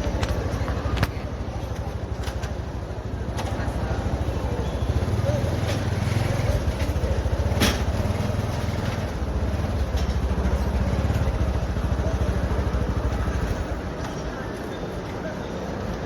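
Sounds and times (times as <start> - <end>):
engine idling: 0.0 - 13.8.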